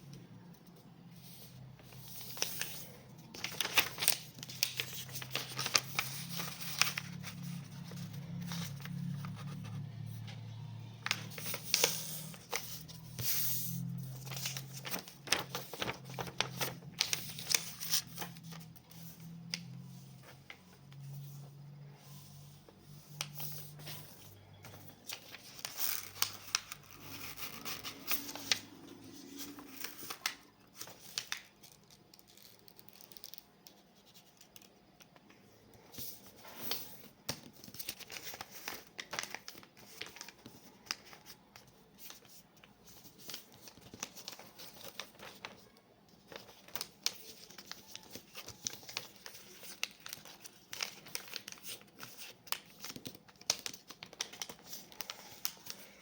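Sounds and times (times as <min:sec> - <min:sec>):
paper rustling and crinkling: 0:01.2 - 0:35.2, 0:35.8 - 0:56.0.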